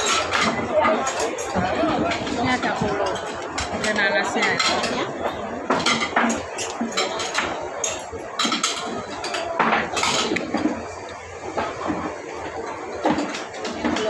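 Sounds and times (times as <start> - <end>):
dishes and cutlery clinking: 0.0 - 14.0.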